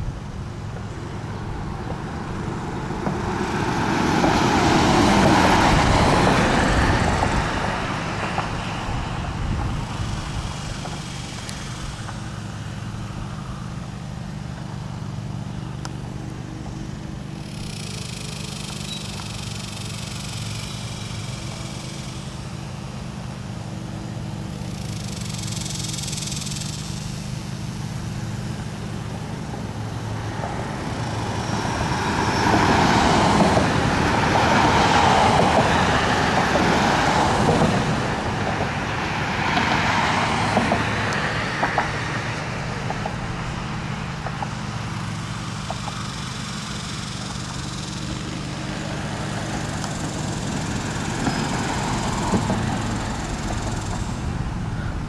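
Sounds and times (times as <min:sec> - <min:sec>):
road traffic engine hum: 0:00.0 - 0:55.0
vehicles passing: 0:00.0 - 0:55.0.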